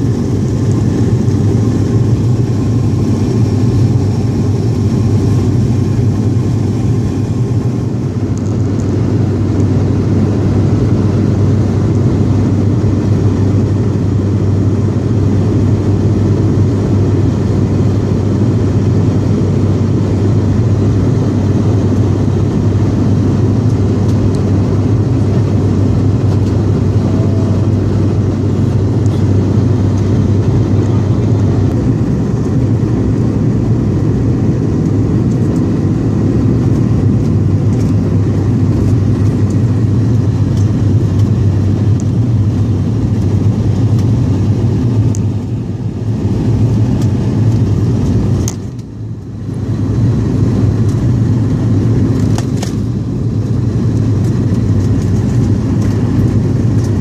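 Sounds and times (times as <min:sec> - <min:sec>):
turboprop aircraft cabin drone: 0:00.0 - 0:57.0.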